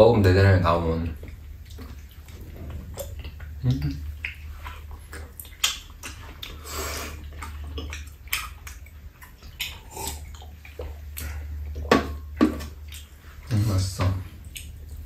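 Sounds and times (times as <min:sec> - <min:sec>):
low steady hum: 0:00.0 - 0:15.0
wet chewing and slurping: 0:01.0 - 0:13.5, 0:14.2 - 0:15.0.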